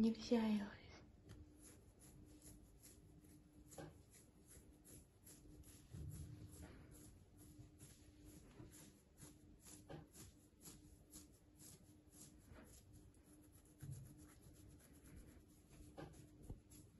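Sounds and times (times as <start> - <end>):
hand rubbing puppy fur: 1.0 - 16.9.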